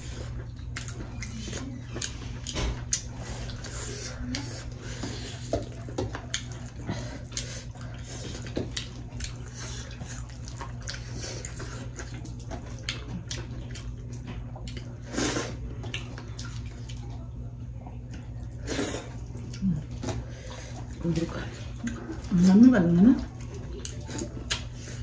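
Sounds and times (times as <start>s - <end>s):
wet squishing and smacking: 0.0s - 15.0s, 19.2s - 25.0s
chewing: 0.0s - 25.0s.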